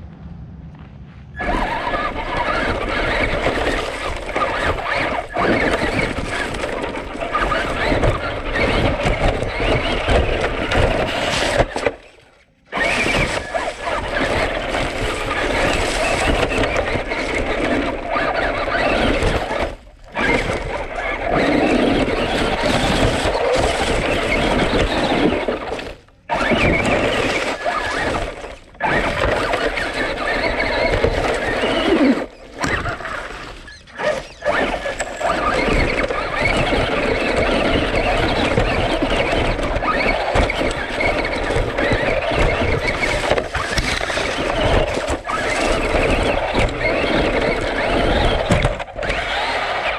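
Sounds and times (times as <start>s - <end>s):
rc truck driving over leaves: 1.4s - 49.9s.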